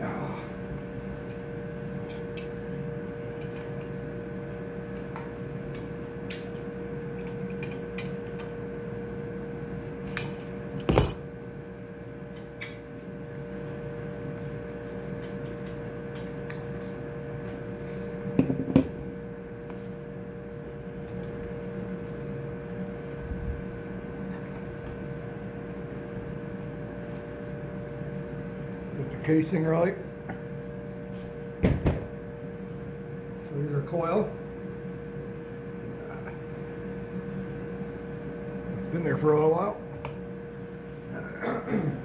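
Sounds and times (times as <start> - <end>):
steady hum with fixed tones: 0.0 - 42.0.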